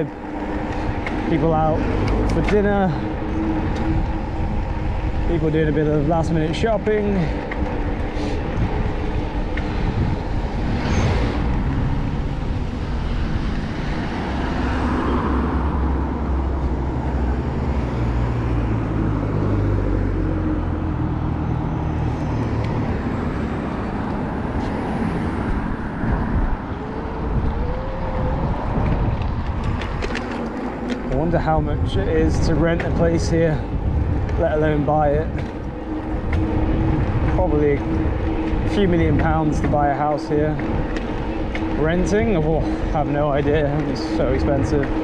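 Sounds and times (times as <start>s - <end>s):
deep low rumble: 0.0s - 45.0s
road and passing cars: 0.0s - 45.0s.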